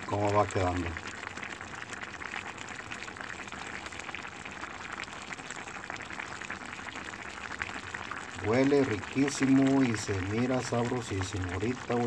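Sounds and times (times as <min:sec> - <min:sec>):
meat bubbling in a pan: 0:00.0 - 0:12.0.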